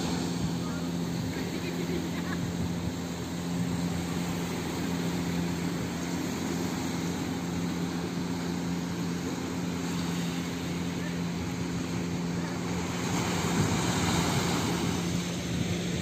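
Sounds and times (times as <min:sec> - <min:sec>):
boat engine idling: 0:00.0 - 0:16.0
small waves washing on beach: 0:00.0 - 0:16.0.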